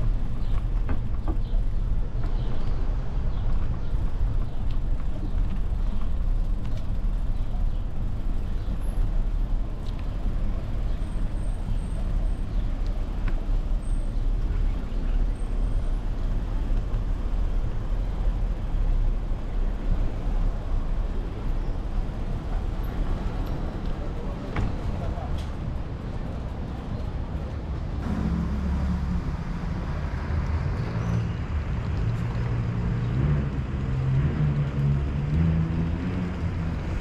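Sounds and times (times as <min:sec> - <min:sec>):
bicycle tyres on brick paving: 0:00.0 - 0:37.0.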